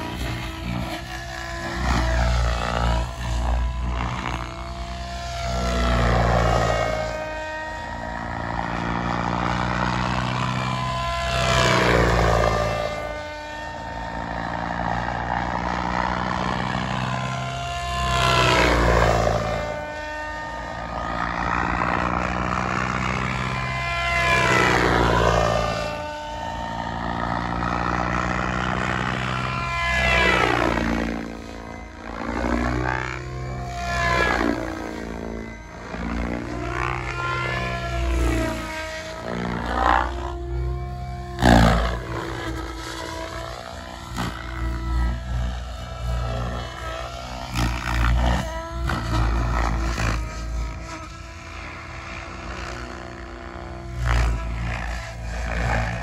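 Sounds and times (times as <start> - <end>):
model airplane motor flying overhead: 0.0 - 56.0.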